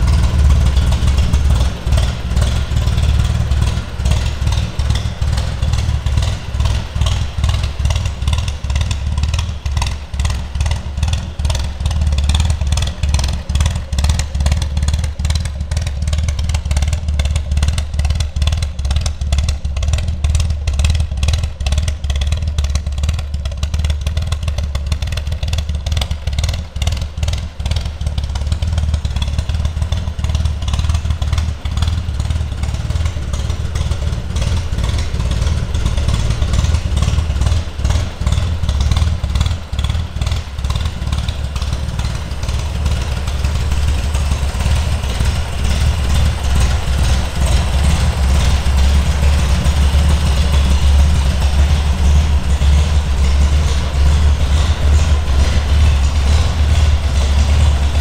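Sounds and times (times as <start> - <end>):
car engine running steadily: 0.0 - 58.0.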